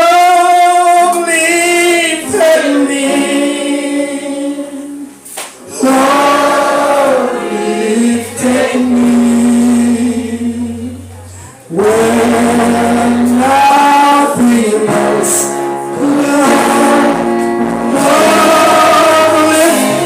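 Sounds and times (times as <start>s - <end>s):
voices singing together: 1.3s - 11.1s, 11.7s - 20.0s.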